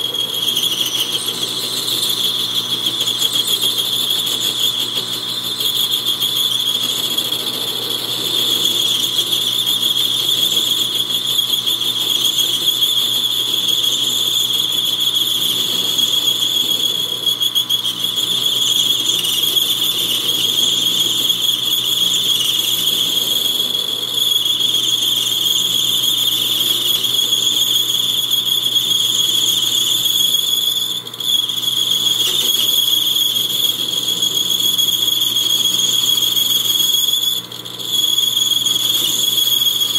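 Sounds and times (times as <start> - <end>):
metal lathe squealing: 0.0 - 39.9.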